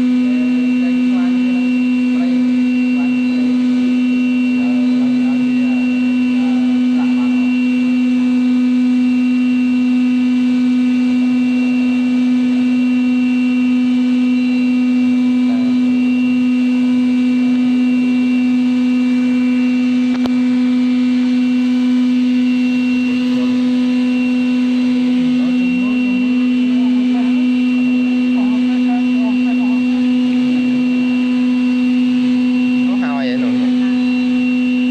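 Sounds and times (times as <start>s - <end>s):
lathe humming and whining: 0.0s - 34.9s.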